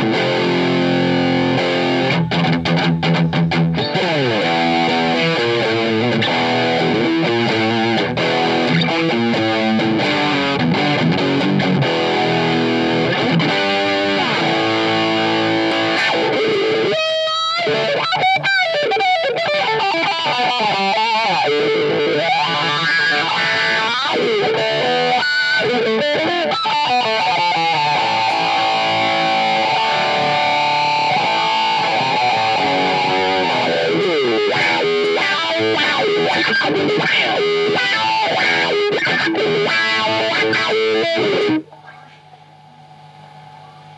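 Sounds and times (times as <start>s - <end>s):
distorted electric guitar lead: 0.0s - 43.9s.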